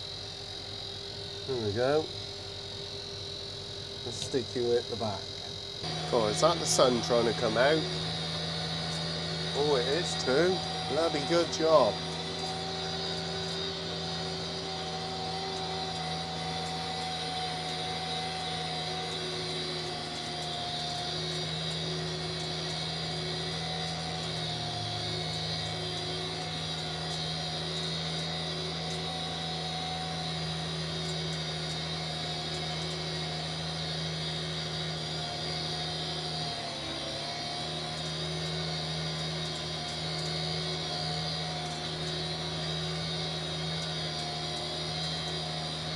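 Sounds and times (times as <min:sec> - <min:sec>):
steady whine: 0:00.0 - 0:45.9
tractor engine droning: 0:05.8 - 0:45.9.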